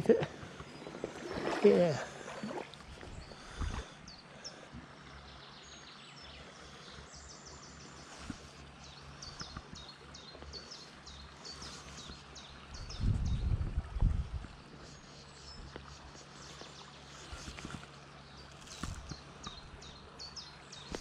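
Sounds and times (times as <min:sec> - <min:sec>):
shallow stream flowing: 0:00.0 - 0:21.0
songbird singing: 0:00.0 - 0:21.0.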